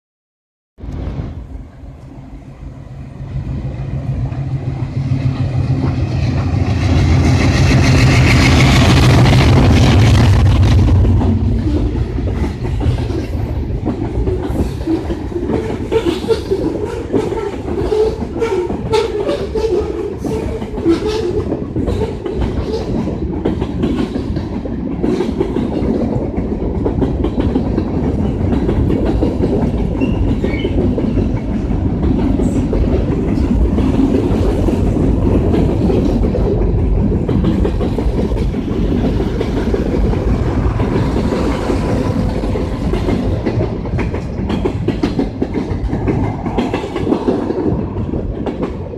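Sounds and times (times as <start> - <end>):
train wheels clicking over rail joints: 3.2 - 48.9.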